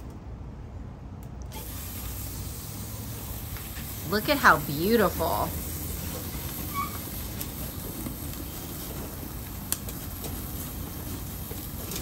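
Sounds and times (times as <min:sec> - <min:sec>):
charcoal fire flames rushing: 0:00.0 - 0:12.0.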